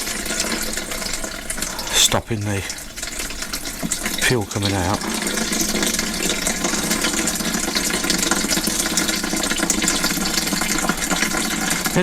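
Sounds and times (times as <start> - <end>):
fuel pouring into container: 0.0 - 12.0.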